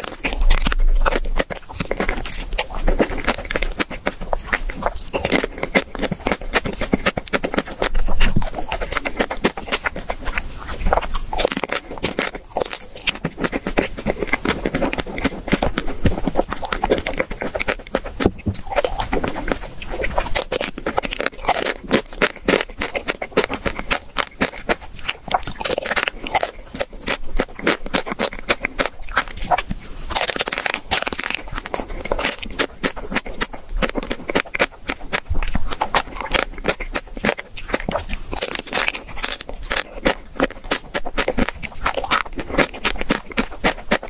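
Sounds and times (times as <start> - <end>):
chewing: 0.0 - 44.0
ice cream shell crunching: 0.0 - 44.0.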